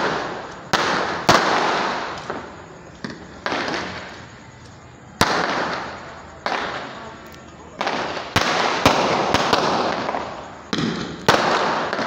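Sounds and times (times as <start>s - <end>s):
fireworks bangs with echo: 0.0s - 4.5s, 5.1s - 12.0s.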